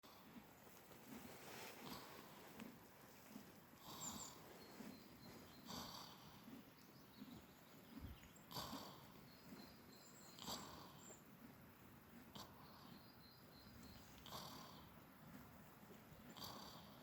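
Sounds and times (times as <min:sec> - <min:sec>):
sheep snoring softly: 0:00.0 - 0:17.0.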